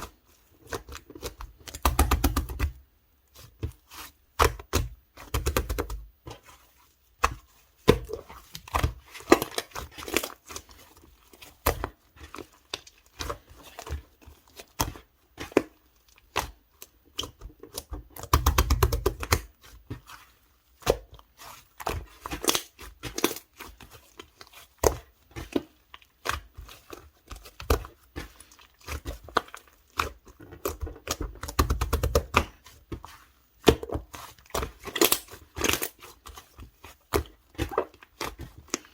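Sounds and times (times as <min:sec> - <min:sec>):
hands squishing slime: 0:00.0 - 0:38.9.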